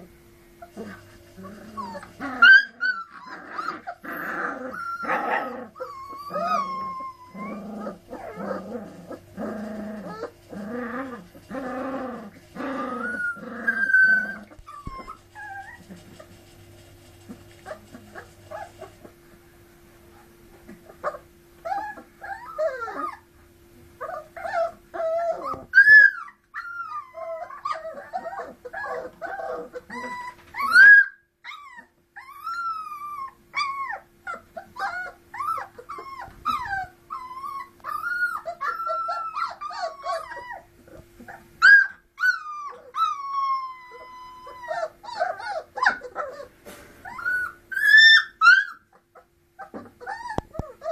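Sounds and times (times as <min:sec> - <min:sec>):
puppies whimpering and squealing: 0:00.0 - 0:19.4, 0:20.1 - 0:50.9
puppies yelping: 0:00.6 - 0:16.4, 0:17.2 - 0:19.4, 0:20.6 - 0:23.4, 0:24.0 - 0:50.9.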